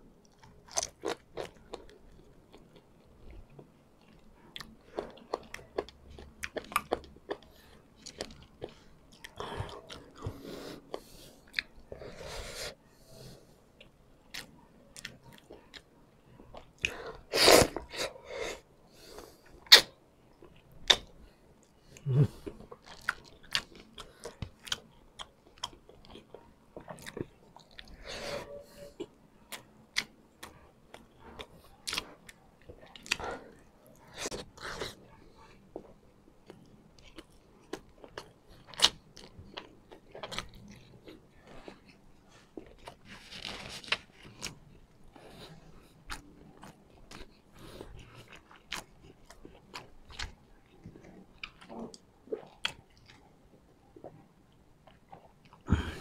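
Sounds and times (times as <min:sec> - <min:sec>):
man chewing and smacking: 0:00.2 - 0:12.0, 0:19.4 - 0:28.0, 0:29.0 - 0:56.0.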